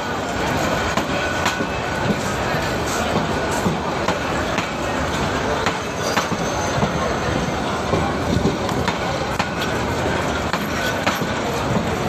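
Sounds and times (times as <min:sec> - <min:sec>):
crowd chatter: 0:00.0 - 0:12.0
train coaches rumbling: 0:00.0 - 0:12.0.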